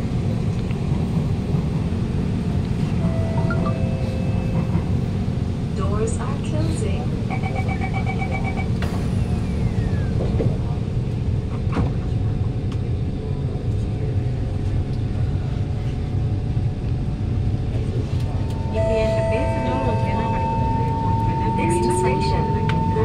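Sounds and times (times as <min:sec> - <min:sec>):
train car low rumble: 0:00.0 - 0:23.0.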